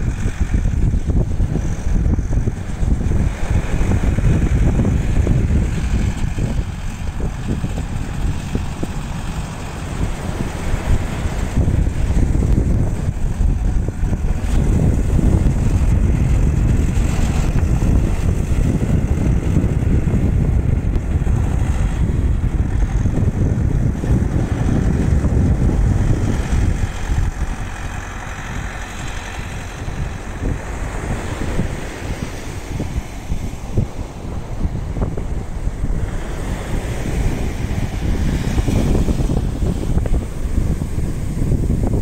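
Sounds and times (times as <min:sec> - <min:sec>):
tractor engine rumble: 0:00.0 - 0:42.0
wind buffeting microphone: 0:00.0 - 0:42.0.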